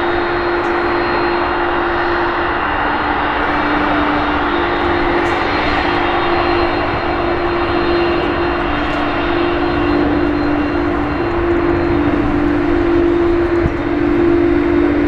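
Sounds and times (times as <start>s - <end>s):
jet engines roaring: 0.0s - 15.0s
low droning tones: 0.0s - 15.0s.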